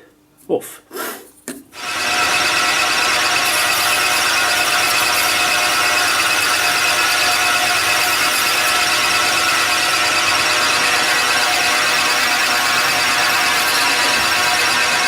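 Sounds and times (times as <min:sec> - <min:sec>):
high whining tones: 0:01.8 - 0:15.0
metal lathe cutting: 0:01.8 - 0:15.0.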